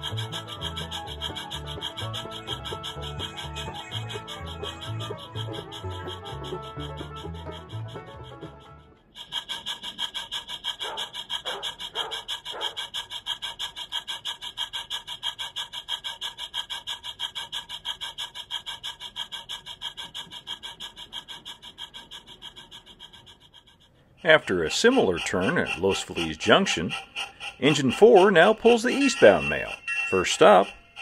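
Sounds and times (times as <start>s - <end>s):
model locomotive chuffing: 0.0s - 31.0s.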